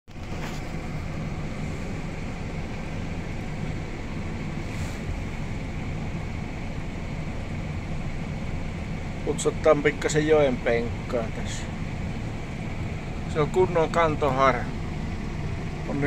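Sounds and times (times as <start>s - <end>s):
low diesel engine drone: 0.0s - 16.0s.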